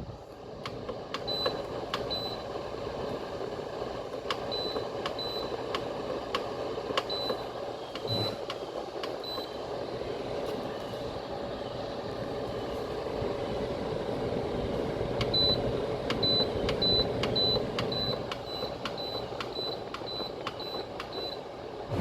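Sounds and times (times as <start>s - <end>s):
fan humming: 0.0s - 22.0s.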